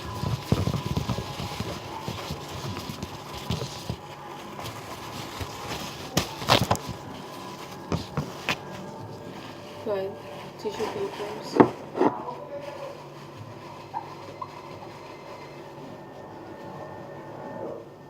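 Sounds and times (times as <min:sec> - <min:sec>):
cloth rubbing a wet bowl: 0:00.0 - 0:18.0.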